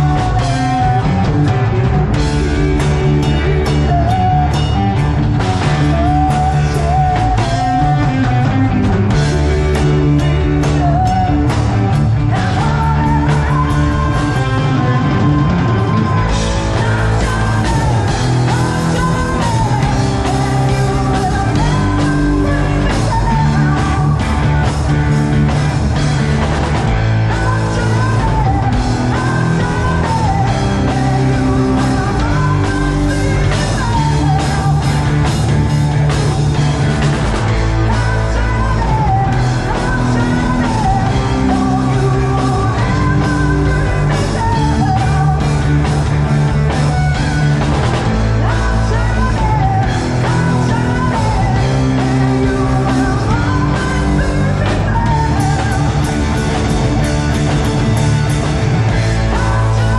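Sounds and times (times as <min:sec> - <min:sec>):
person singing: 0:00.0 - 0:25.5, 0:27.2 - 0:36.7, 0:37.4 - 0:56.8, 0:58.4 - 0:59.9
rock band playing live: 0:00.0 - 0:59.9.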